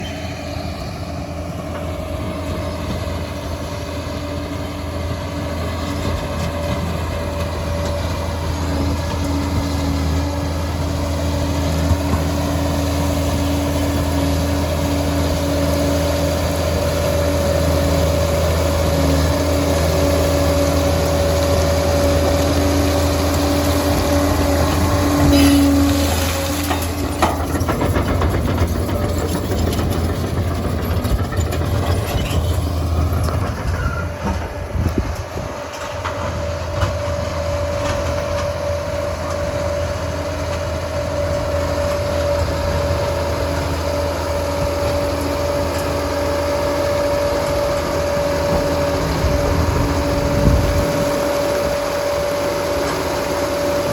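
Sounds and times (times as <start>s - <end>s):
dozer engine drone: 0.0s - 53.9s
dozer whine: 0.0s - 53.9s.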